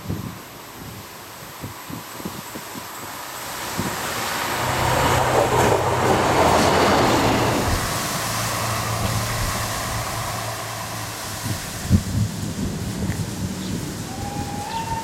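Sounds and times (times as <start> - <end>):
wheels rushing on rails: 0.0 - 15.0
diesel engine drone: 2.5 - 15.0.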